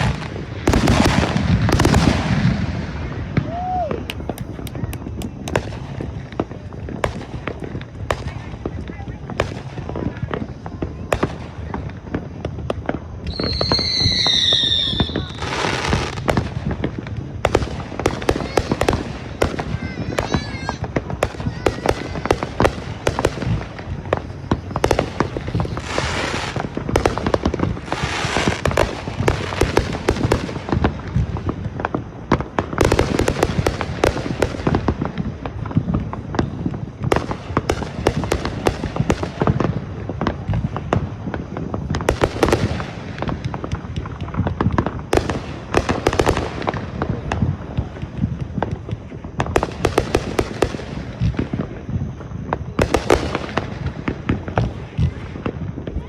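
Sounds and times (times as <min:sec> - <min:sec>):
fireworks pops and bangs: 0:00.0 - 0:56.0
hissing crackle: 0:00.0 - 0:56.0.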